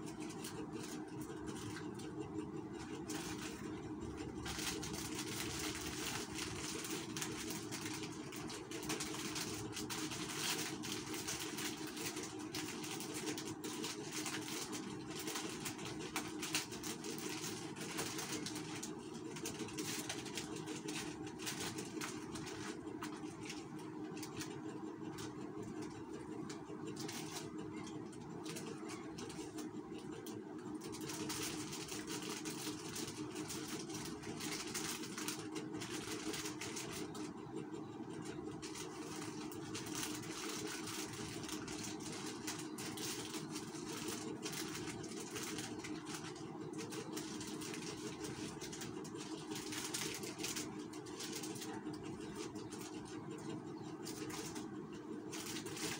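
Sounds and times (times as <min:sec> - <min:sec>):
low mechanical hum: 0:00.0 - 0:55.9
plastic sachets crinkling: 0:00.1 - 0:37.3, 0:38.1 - 0:55.9.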